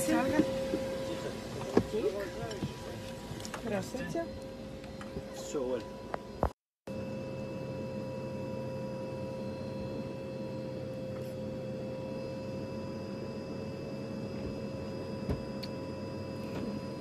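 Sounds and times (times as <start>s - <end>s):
aircraft cabin rumble: 0.0s - 17.0s
steady whine: 0.0s - 17.0s.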